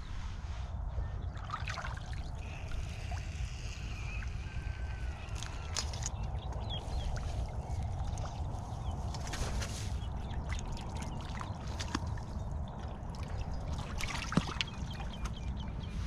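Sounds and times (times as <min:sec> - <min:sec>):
steady low rumble: 0:00.0 - 0:16.0
water splashing and dripping: 0:01.4 - 0:03.4, 0:04.0 - 0:15.5.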